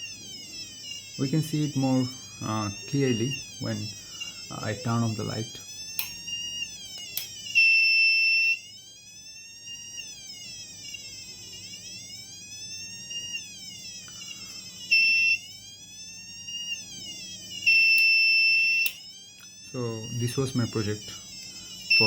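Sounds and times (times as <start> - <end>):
electronic siren wailing: 0.0 - 22.0.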